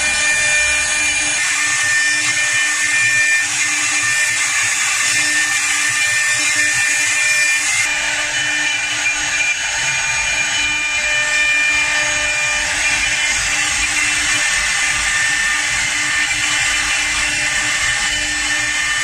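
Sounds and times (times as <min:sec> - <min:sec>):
hiss of wood cutting: 0:00.0 - 0:19.0
motor whine: 0:00.0 - 0:19.0.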